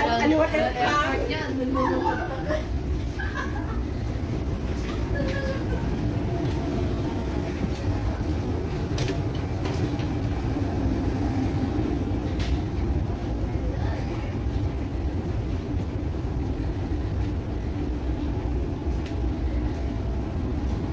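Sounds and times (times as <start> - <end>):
train rumble from inside car: 0.0 - 20.9.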